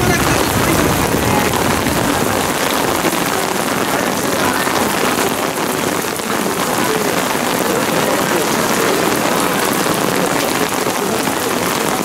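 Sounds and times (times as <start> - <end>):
rain on umbrellas and pavement: 0.0 - 12.0.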